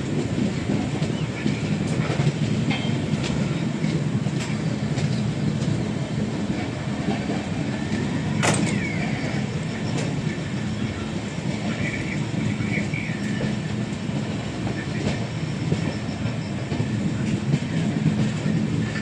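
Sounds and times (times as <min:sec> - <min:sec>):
sharp clicks of train wheels: 0:00.0 - 0:19.0
train wheels rumbling on rails: 0:00.0 - 0:19.0.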